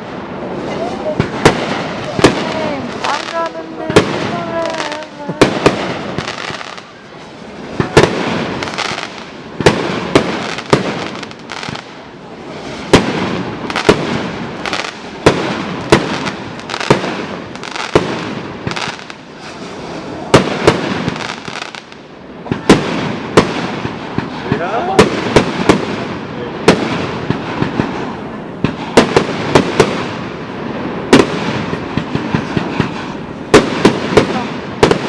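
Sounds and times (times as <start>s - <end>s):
firework bangs: 0.0s - 35.0s
hissing crackle of fireworks: 0.0s - 35.0s.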